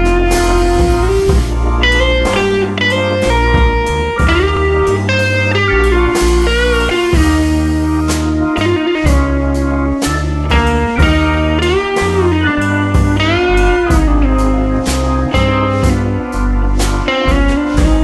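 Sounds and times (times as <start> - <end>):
bluesy guitar with bass and drums: 0.0 - 18.0.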